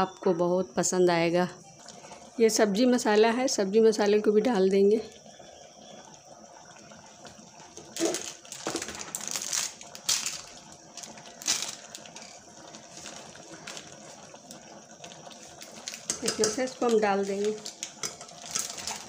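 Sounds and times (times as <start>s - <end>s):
curry bubbling in a pot: 1.6s - 19.0s.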